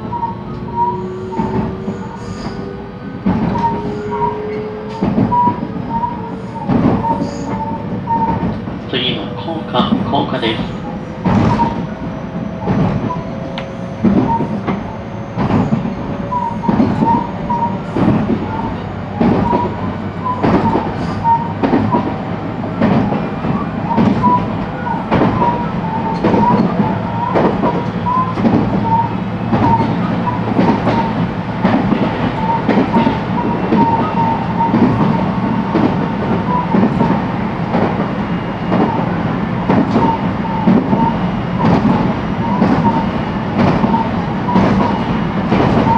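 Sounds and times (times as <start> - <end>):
train rumbling at speed: 0.0 - 45.9
rail joints clicking and knocking: 1.3 - 22.2, 22.8 - 45.9.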